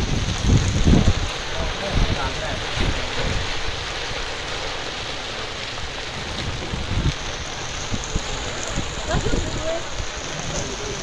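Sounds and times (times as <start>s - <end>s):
heavy rain falling: 0.0s - 11.0s
wind buffeting microphone: 0.0s - 11.0s.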